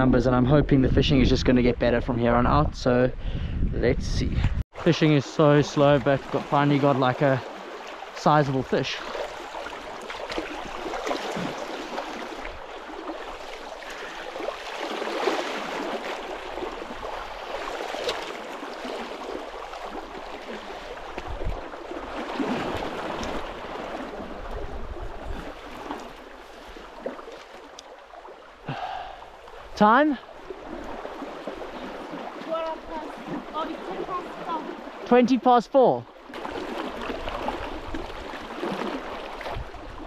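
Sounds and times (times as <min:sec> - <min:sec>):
river water rushing: 0:05.0 - 0:40.0.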